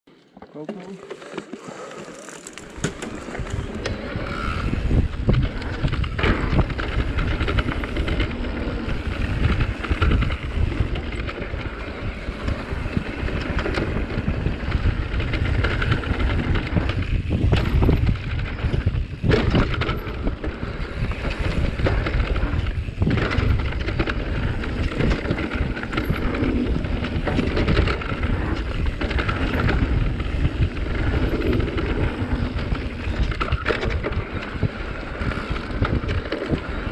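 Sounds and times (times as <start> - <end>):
tyres on dirt: 0.2 - 36.9
bike rattling over bumps: 0.7 - 36.9
wind rumble on microphone: 2.7 - 36.9.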